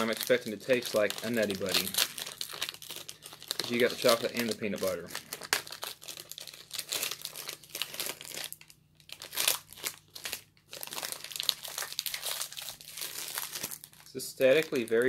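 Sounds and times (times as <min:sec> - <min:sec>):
snack wrapper crinkling: 0:00.0 - 0:15.0.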